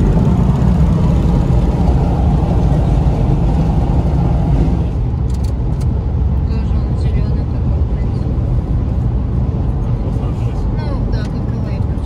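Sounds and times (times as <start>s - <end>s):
car road rumble from inside: 0.0s - 12.0s
tyre and engine noise: 0.0s - 12.0s.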